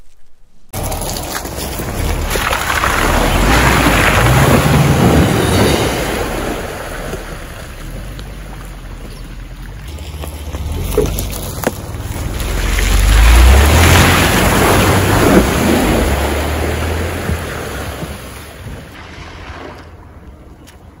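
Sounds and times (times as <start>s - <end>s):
mud and water splashing: 0.7s - 21.0s
car engine revving: 0.8s - 20.0s.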